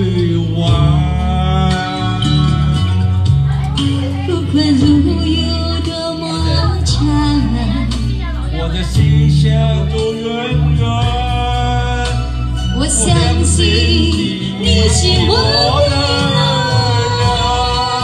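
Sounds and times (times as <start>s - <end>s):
backing music with bass line: 0.0s - 18.0s
man and woman singing duet: 0.0s - 18.0s.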